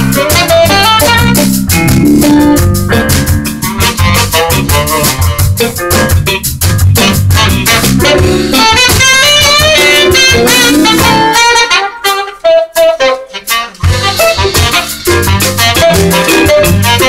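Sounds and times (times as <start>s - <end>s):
bass: 0.0s - 11.6s, 13.8s - 17.0s
band hits: 0.0s - 11.7s, 13.8s - 17.0s
drum kit: 0.0s - 17.0s
guitar: 0.0s - 17.0s
saxophone melody: 0.0s - 17.0s.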